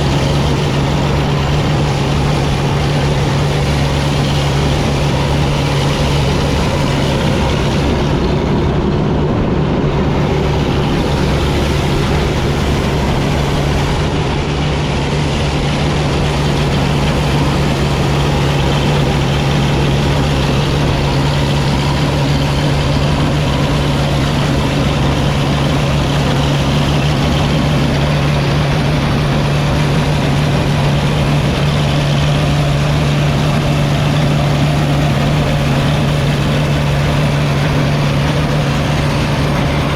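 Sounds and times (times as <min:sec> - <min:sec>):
machinery noise: 0:00.0 - 0:39.9
tractor diesel engine running: 0:00.0 - 0:39.9.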